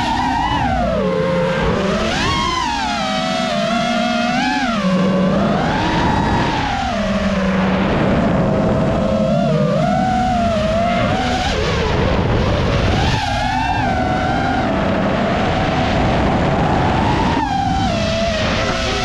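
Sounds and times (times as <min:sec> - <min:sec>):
drone motors whining: 0:00.0 - 0:19.0
rush of wind: 0:00.0 - 0:19.0.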